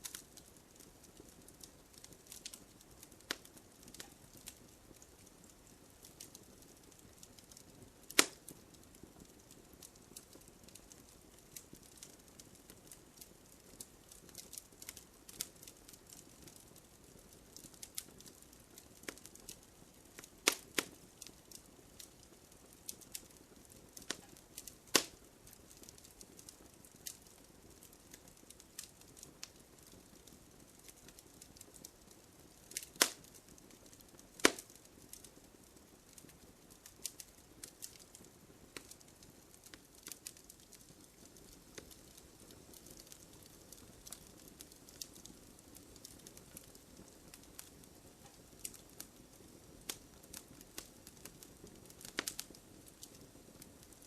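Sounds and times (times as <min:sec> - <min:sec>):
low hiss of fire: 0:00.0 - 0:54.0
sharp pops of fire: 0:00.0 - 0:54.0
wood fire crackling: 0:00.0 - 0:54.0.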